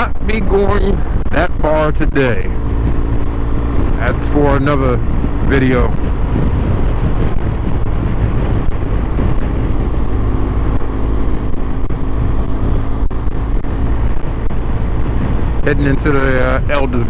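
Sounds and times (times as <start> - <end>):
motorcycle engine running: 0.0 - 17.0
wind and road rush: 0.0 - 17.0.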